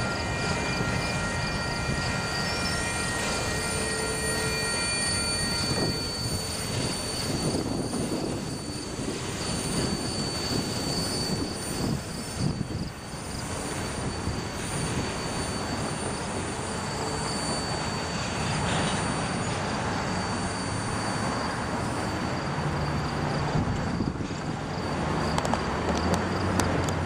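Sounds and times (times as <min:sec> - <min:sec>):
high-pitched wheel squeal: 0:00.0 - 0:26.7
train wheels clattering on rail: 0:05.0 - 0:27.0.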